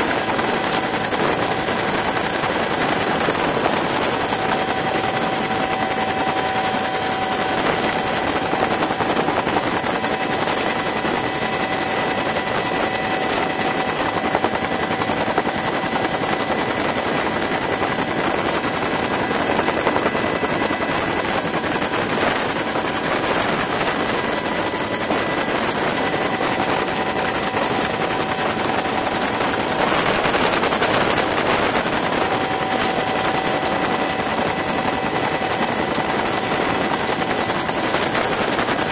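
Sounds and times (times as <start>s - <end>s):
constant high whine: 0.0s - 38.9s
helicopter rotor and engine noise: 0.0s - 38.9s.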